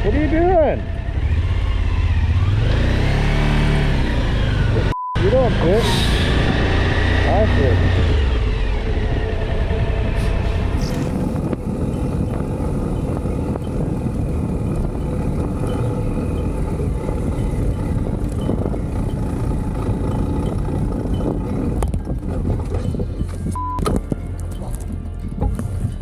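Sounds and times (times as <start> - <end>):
motor vehicle engine rumble: 0.0 - 26.0.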